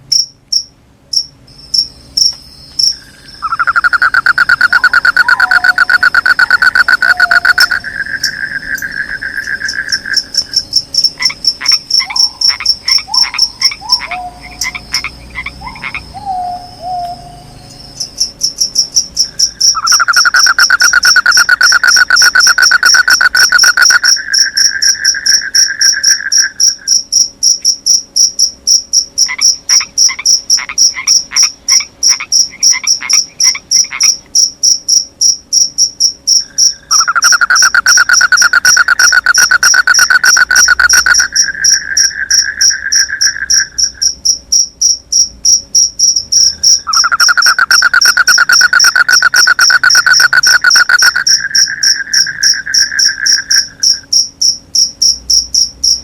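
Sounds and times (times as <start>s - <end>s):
crickets chirping: 0.0s - 56.0s
short falling frog calls: 1.2s - 17.4s, 18.0s - 27.3s, 29.2s - 56.0s
frog croaking trill: 1.2s - 27.3s, 28.4s - 56.0s.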